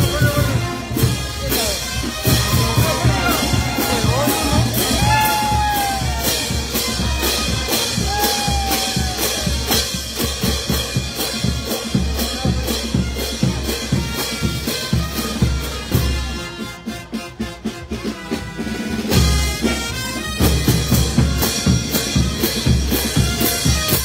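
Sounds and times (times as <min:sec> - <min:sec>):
drums and crash cymbals: 0:00.0 - 0:24.0
saxophones and trumpets: 0:00.0 - 0:24.0.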